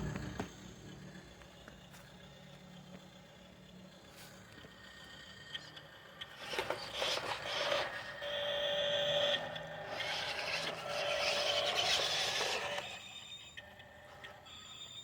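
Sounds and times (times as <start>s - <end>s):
machinery noise: 0.0s - 13.0s
steady machine whine: 0.0s - 15.0s.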